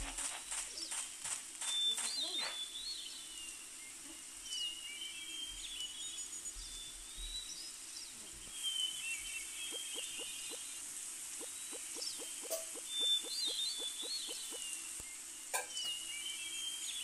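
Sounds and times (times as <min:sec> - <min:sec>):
steady hiss: 0:00.0 - 0:17.0
birds chirping and whistling: 0:01.6 - 0:03.7, 0:04.4 - 0:07.7, 0:08.5 - 0:17.0.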